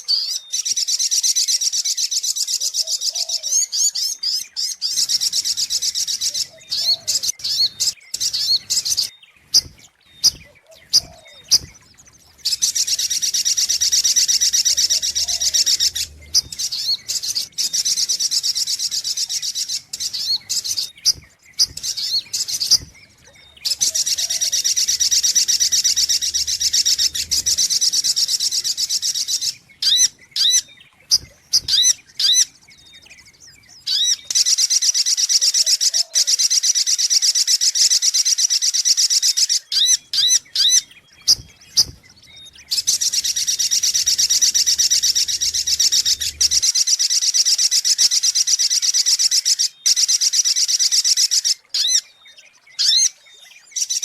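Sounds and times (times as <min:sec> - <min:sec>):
recorded bird chirps and trills: 0:00.0 - 0:54.0.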